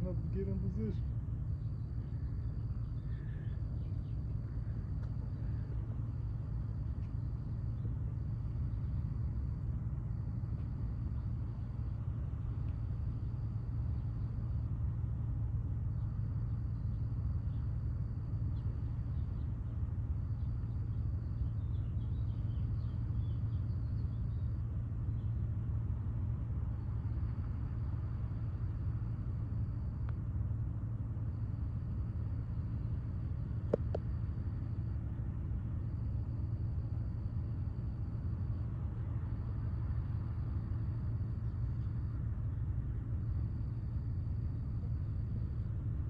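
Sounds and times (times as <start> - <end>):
ship engines low drone: 0.0 - 46.0.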